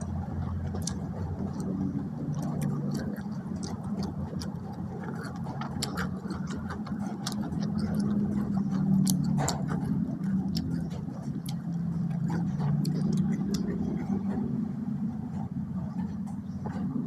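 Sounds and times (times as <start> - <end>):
wet mouth clicks: 0.0 - 14.6
person chewing food: 0.0 - 17.0
steady low hum: 0.0 - 17.0.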